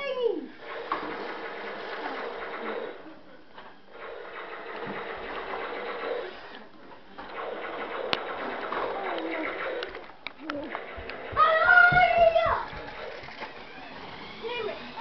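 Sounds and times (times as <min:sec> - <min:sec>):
toy electric motors whirring: 0:00.6 - 0:15.0.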